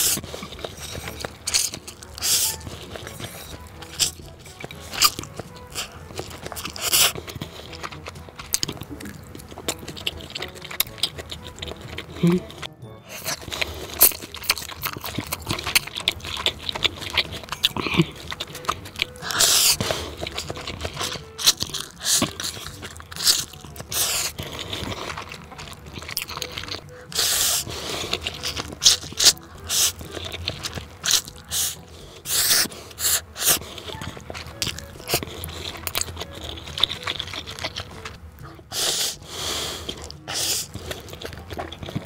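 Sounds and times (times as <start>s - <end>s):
person chewing and biting food: 0.0s - 42.0s.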